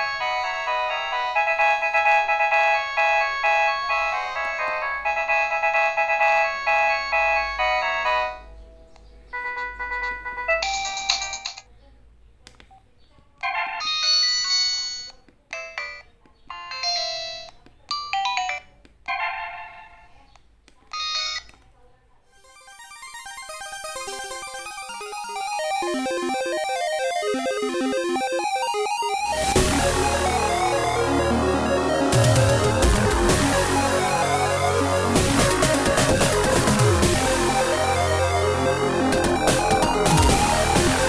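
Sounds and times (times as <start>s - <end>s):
phone ringtone melody: 0.0s - 8.6s, 9.2s - 11.6s, 13.4s - 20.1s, 20.9s - 21.6s, 22.4s - 41.0s.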